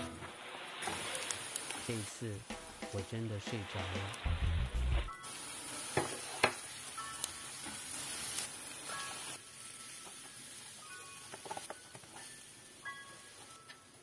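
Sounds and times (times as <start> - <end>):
onions sizzling in a pan: 0.0 - 14.0.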